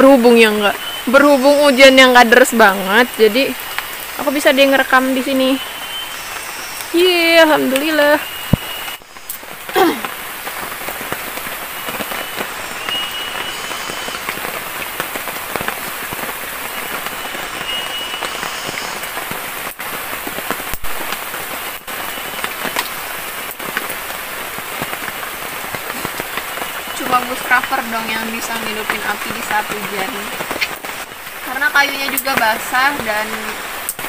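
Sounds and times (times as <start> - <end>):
light rain on leaves: 0.0 - 34.0.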